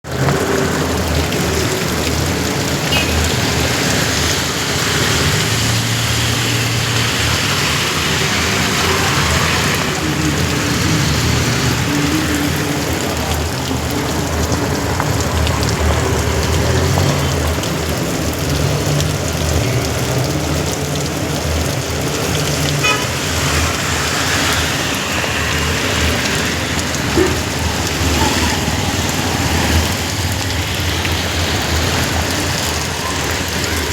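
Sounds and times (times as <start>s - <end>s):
heavy rain pouring: 0.0s - 33.9s
road vehicles rumbling: 0.0s - 33.9s.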